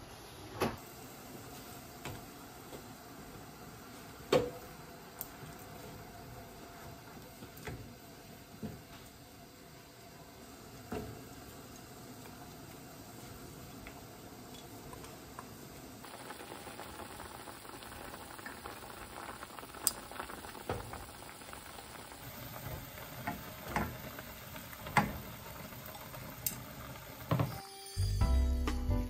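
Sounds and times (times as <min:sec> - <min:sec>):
sauce bubbling in a pot: 0:00.8 - 0:27.6.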